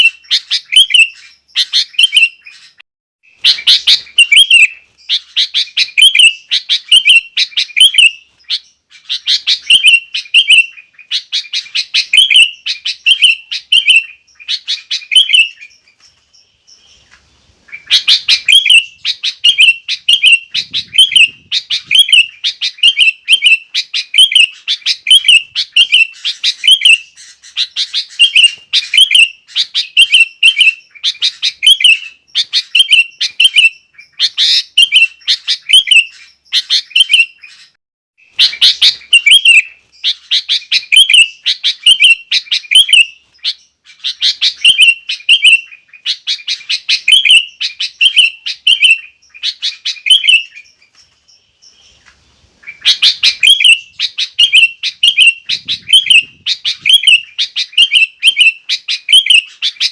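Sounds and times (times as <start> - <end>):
bulbul singing: 0.0 - 17.1, 17.7 - 52.0, 52.6 - 59.9.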